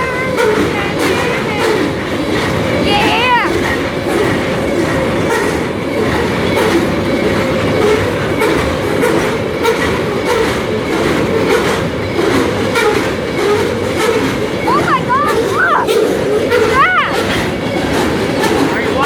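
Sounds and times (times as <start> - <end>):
freight train rumbling: 0.0 - 19.0
train wheels clacking on rails: 0.0 - 19.0.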